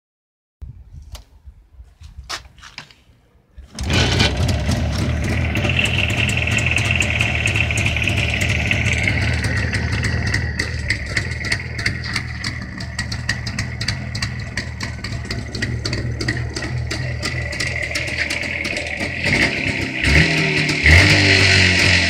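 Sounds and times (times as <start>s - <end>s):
motorcycle engine starting and idling: 3.6s - 22.0s.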